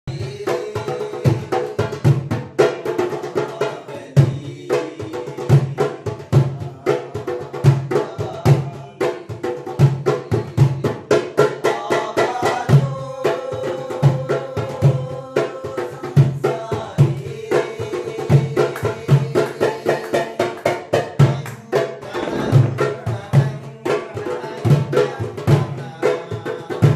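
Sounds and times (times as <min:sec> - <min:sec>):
hand drum rhythm: 0:00.1 - 0:26.9.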